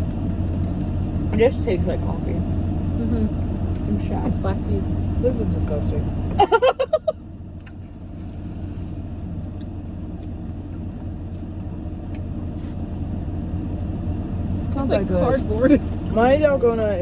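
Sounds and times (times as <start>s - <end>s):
car low rumble: 0.0s - 17.0s.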